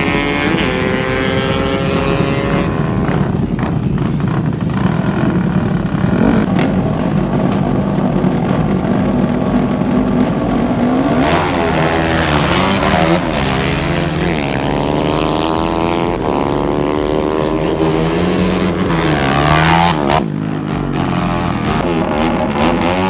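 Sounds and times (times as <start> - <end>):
motorcycle engines accelerating: 0.0 - 23.0.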